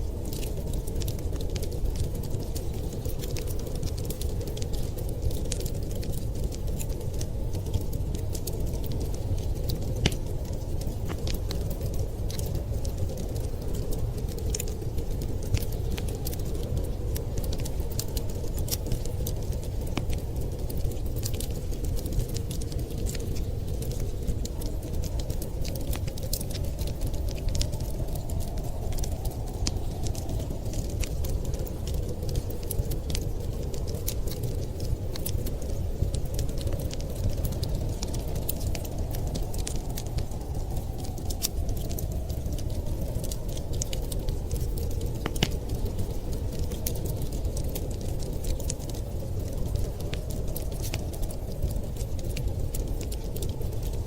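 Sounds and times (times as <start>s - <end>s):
storm wind rumble: 0.0s - 54.0s
wood fire crackling: 0.0s - 54.0s.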